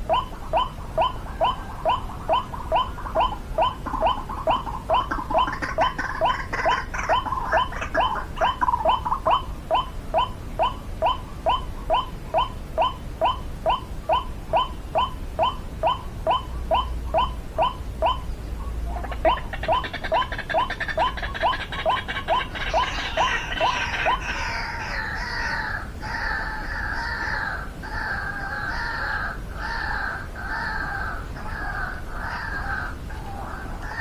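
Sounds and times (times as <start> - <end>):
waterhen calling: 0.0 - 34.0.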